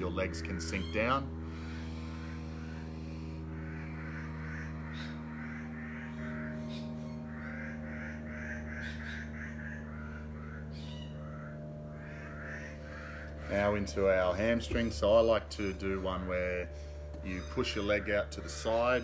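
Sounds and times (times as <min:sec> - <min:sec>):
bird calling repeated notes: 0:00.0 - 0:16.5
steady low hum: 0:00.0 - 0:19.0.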